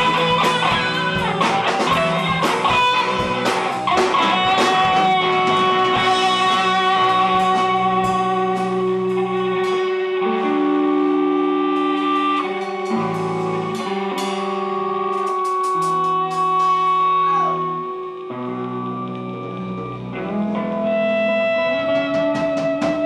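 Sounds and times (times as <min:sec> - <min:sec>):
bass line: 0:00.0 - 0:23.0
electric guitar sustained notes: 0:00.0 - 0:23.0
rock band playing: 0:00.0 - 0:23.0.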